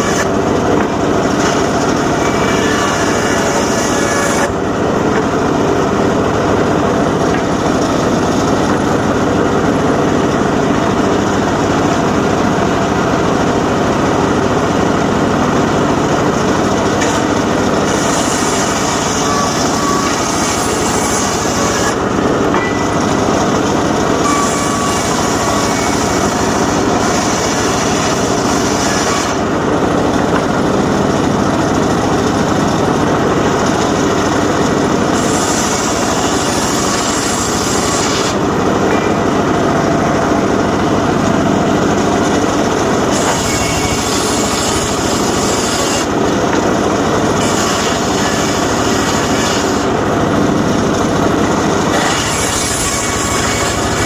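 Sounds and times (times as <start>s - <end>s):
circular saw cutting logs: 0.0s - 54.0s.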